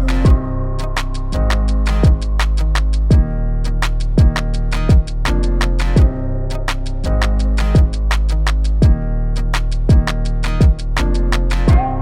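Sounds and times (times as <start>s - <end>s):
electronic beat: 0.0s - 9.0s, 9.6s - 12.0s
sliding bass note: 0.0s - 12.0s.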